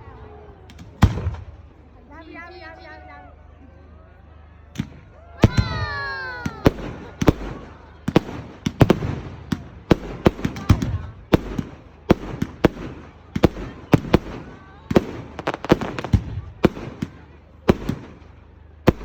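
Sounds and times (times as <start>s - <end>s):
fireworks bangs and cracks: 0.6s - 1.8s, 4.8s - 19.0s.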